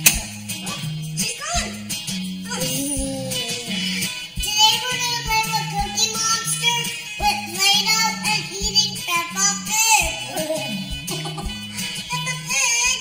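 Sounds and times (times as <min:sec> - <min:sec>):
song with sung melody and bass: 0:00.0 - 0:13.0.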